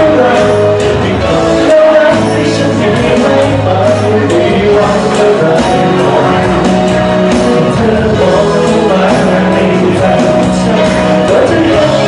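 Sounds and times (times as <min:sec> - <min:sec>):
instrumental accompaniment: 0:00.0 - 0:12.0
man singing: 0:00.0 - 0:12.0.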